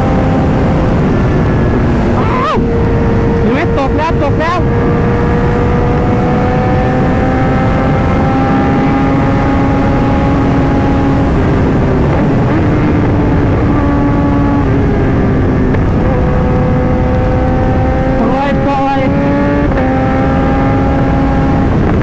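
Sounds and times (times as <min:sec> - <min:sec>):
motorcycle engine cruising: 0:00.0 - 0:22.0
wind noise: 0:00.0 - 0:22.0.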